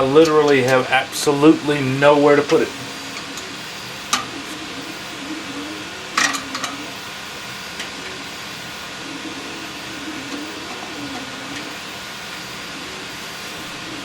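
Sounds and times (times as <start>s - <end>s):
faint wavering hum: 0.0s - 14.0s
steady hiss: 0.0s - 14.0s.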